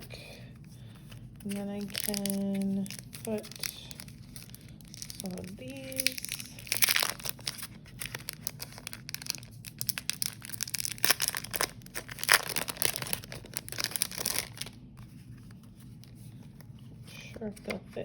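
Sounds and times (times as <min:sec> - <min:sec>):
paper crinkling and rustling: 0:00.0 - 0:18.0.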